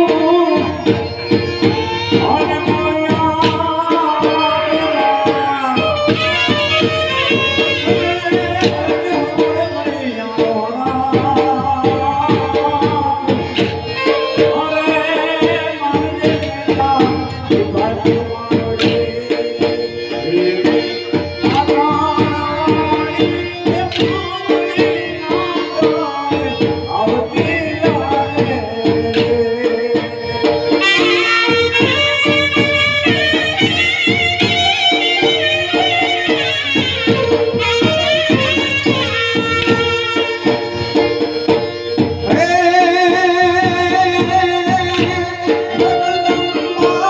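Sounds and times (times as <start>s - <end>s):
fast dhol drumming: 0.0s - 47.0s
man singing: 0.0s - 47.0s.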